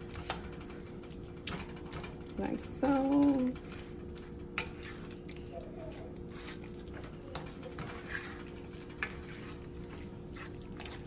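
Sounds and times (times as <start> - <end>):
potatoes squishing as mashed: 0.0 - 11.0.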